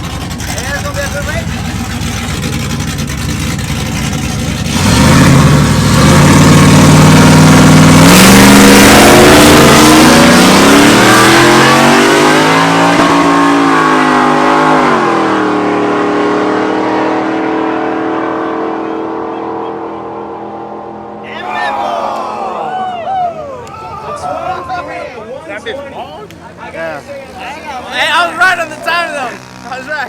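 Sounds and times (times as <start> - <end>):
truck engines at full throttle: 0.0 - 30.0.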